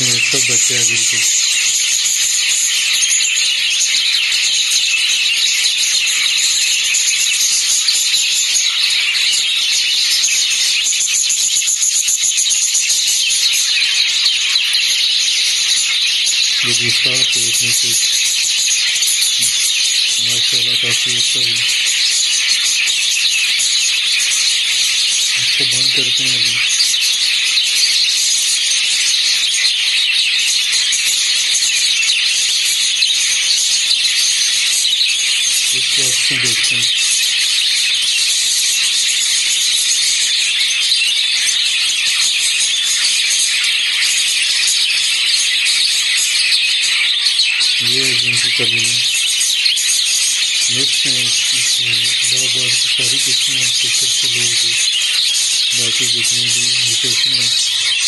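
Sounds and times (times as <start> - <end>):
lovebirds chattering and chirping: 0.0 - 58.0.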